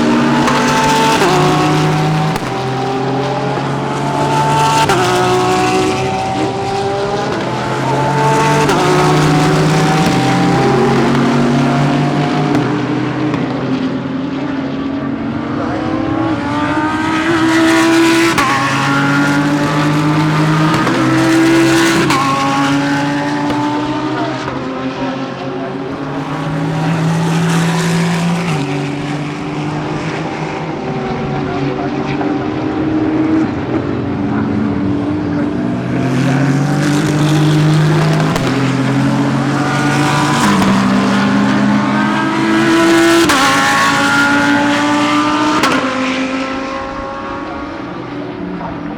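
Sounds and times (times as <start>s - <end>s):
race car engines accelerating: 0.0s - 48.9s.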